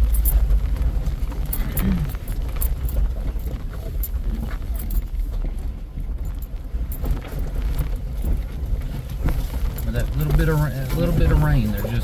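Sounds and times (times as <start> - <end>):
off-road vehicle engine rumble: 0.0 - 12.0
tires clattering on rocks: 0.0 - 12.0.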